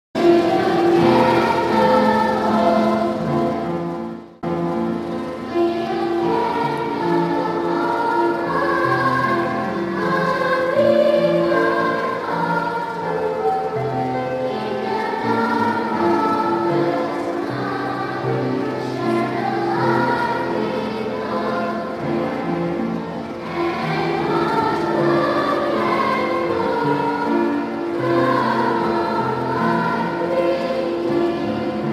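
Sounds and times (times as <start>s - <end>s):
choir singing a hymn: 0.2s - 31.9s.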